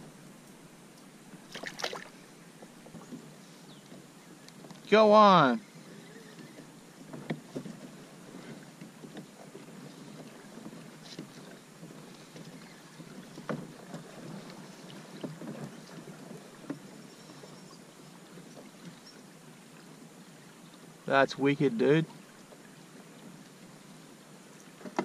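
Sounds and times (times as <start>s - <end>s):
water lapping against hull: 0.0s - 25.0s.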